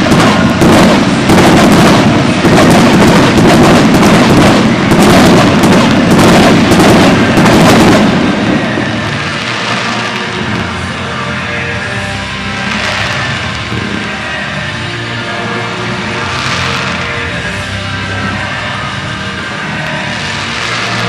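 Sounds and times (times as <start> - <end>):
fireworks booming and crackling: 0.0 - 21.0.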